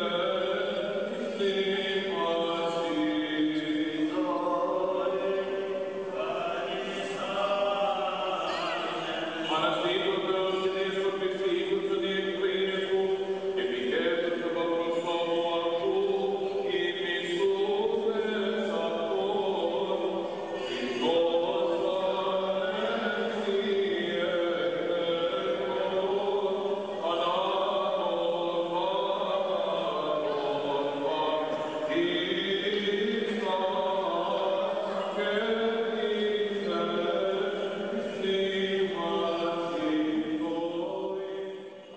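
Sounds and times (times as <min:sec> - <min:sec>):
voices chanting long held notes: 0:00.0 - 0:41.9.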